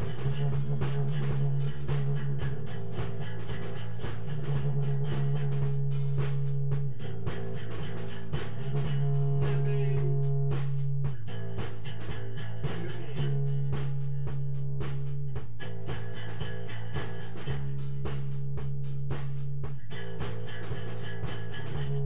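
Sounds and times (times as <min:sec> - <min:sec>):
electric guitar: 0:00.0 - 0:19.1, 0:19.7 - 0:22.0
held bass notes: 0:00.0 - 0:22.0
steady drum beat: 0:00.0 - 0:22.0.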